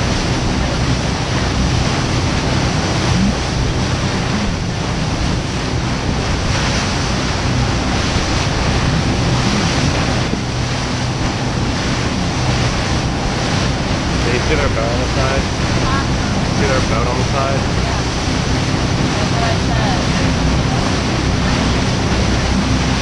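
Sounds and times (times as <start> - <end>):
water splashing from boat: 0.0 - 23.0
wind over microphone: 0.0 - 23.0.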